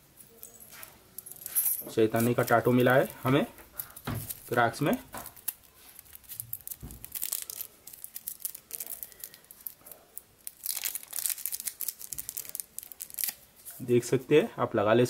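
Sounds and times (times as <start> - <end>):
plastic film crinkling: 0.7 - 13.9.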